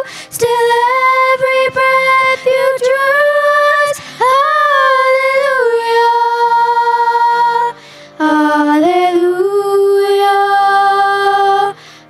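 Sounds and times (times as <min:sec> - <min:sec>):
chorus singing held notes: 0:00.0 - 0:11.8.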